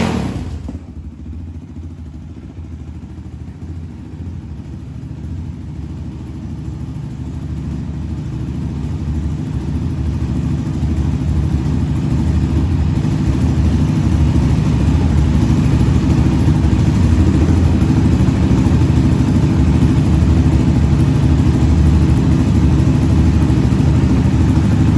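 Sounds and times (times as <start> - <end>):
four-stroke engine running: 0.0 - 24.9.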